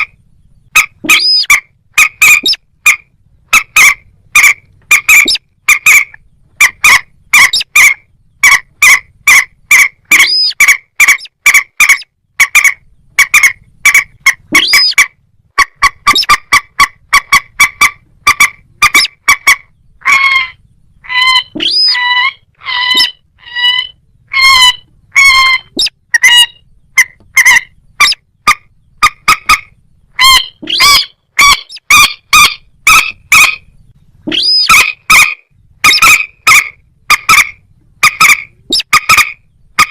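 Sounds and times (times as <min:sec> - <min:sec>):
rail birds calling: 0:00.0 - 0:39.9.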